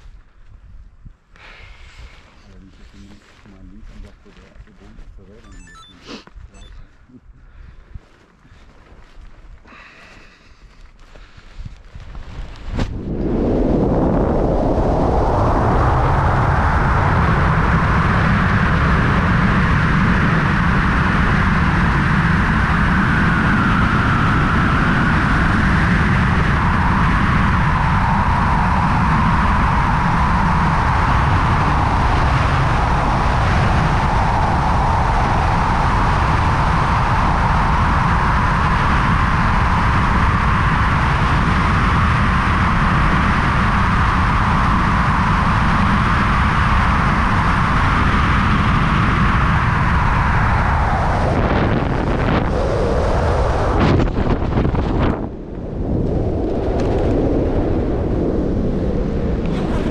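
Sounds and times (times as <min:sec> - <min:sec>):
rush of air over camera: 0:09.6 - 0:59.9.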